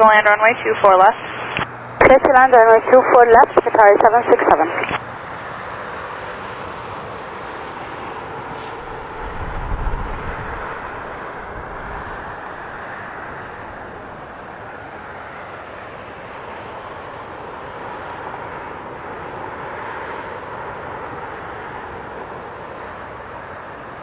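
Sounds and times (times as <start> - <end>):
airliner jet engines rushing: 0.0 - 24.0.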